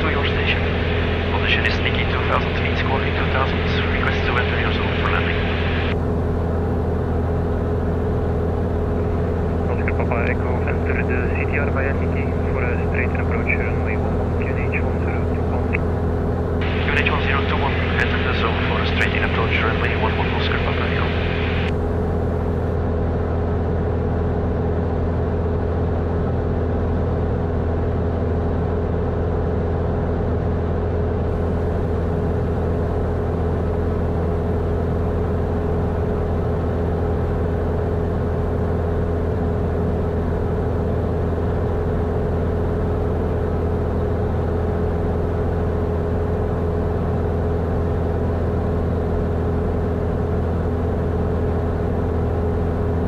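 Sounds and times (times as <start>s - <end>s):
light aircraft engine droning: 0.0s - 53.0s.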